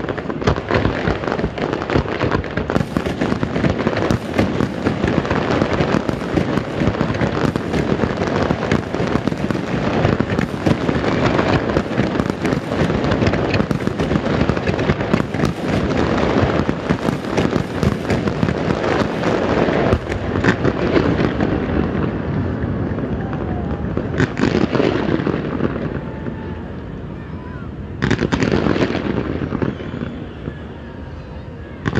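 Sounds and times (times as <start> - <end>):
fireworks bangs and bursts: 0.0 - 31.9.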